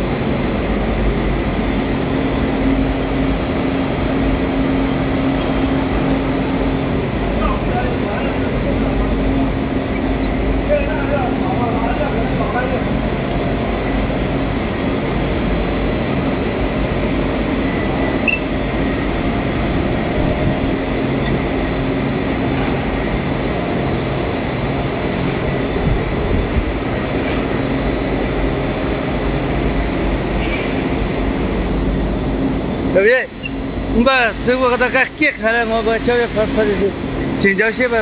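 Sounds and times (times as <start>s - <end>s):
high-pitched machine whine: 0.0s - 38.0s
machinery drone: 0.0s - 38.0s.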